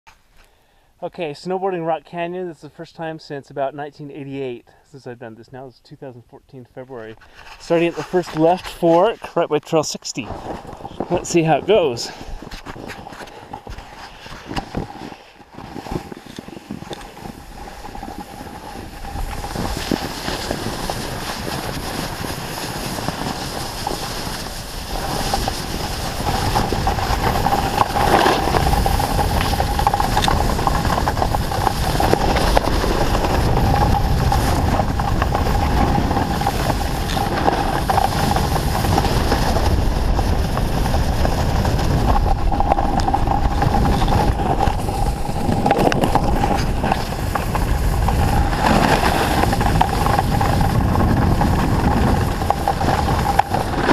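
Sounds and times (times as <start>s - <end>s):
snowboard carving over snow: 7.2s - 53.9s
wind on microphone: 10.2s - 53.9s.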